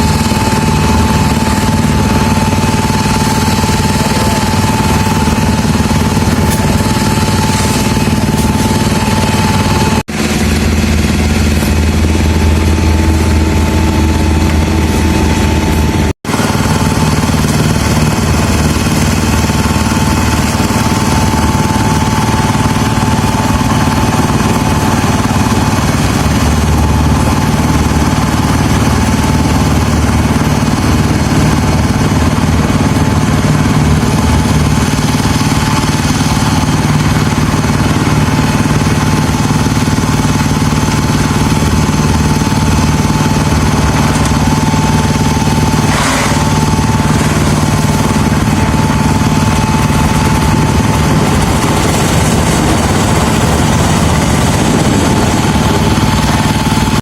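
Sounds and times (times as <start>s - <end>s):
small machine engine running: 0.0s - 57.0s.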